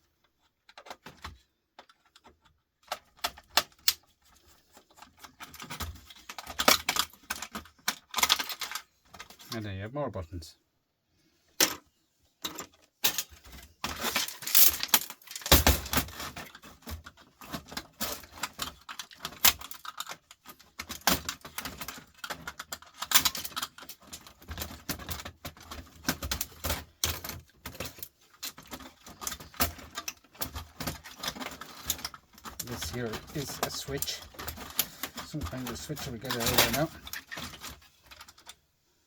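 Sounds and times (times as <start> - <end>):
small parts clicking and clattering: 0.0 - 9.7, 11.5 - 38.6.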